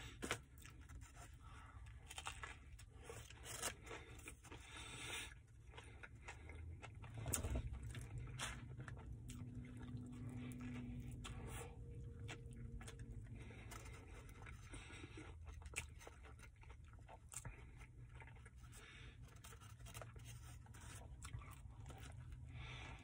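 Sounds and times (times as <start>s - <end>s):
wet chewing mouth noises: 0.0s - 23.0s.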